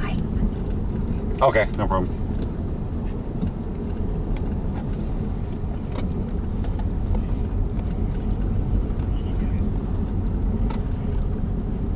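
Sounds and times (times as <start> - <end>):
car driving rumble: 0.0 - 11.9.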